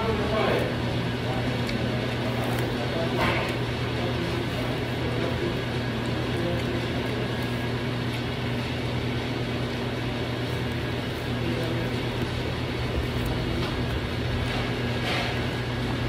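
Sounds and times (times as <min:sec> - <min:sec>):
hvac machinery drone: 0:00.0 - 0:16.0.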